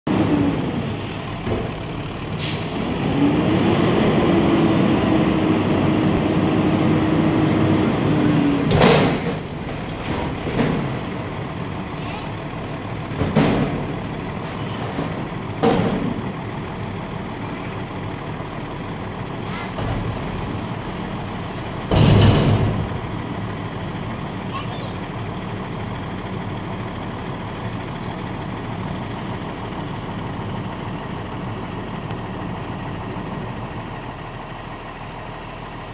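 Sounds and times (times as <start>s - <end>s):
garbage truck engine whining: 0.1s - 35.9s.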